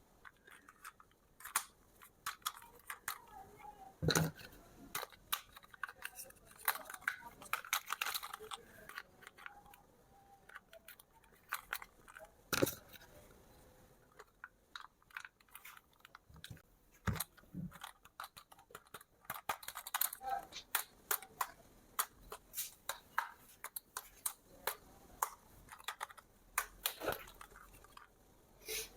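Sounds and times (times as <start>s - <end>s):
plastic packaging crackling: 0.2s - 13.3s, 14.1s - 28.2s.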